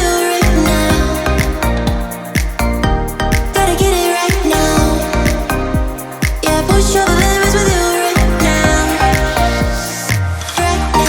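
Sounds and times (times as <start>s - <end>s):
pop music with steady beat: 0.0s - 11.0s.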